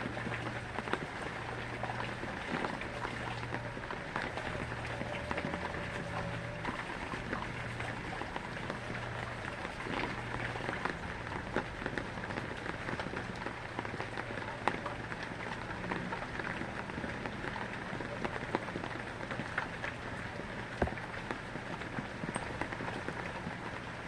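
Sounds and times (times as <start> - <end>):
low steady hum: 0.0 - 24.0
rain falling: 0.0 - 24.0
raindrops ticking on hard surface: 0.0 - 24.0.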